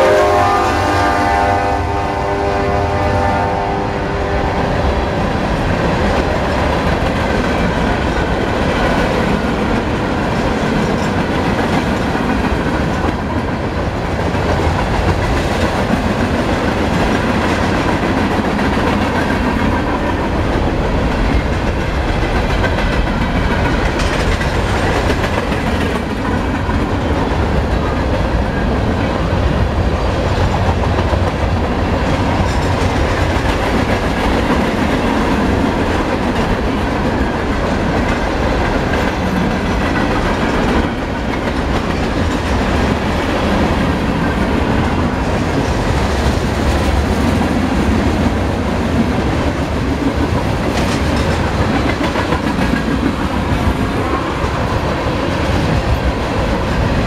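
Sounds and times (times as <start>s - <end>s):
freight train wheels rumbling: 0.0s - 57.0s
wheels clacking over rail joints: 5.8s - 57.0s.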